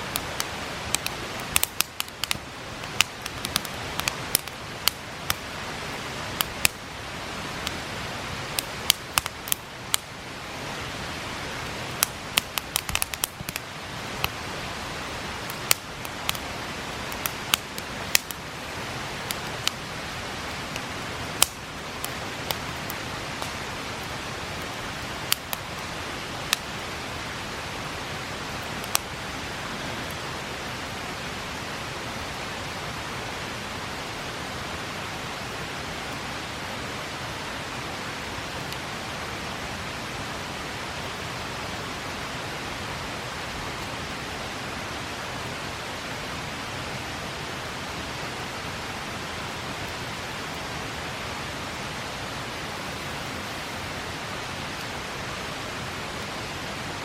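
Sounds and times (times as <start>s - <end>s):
campfire crackling: 0.0s - 57.0s
river water rushing: 0.0s - 57.0s.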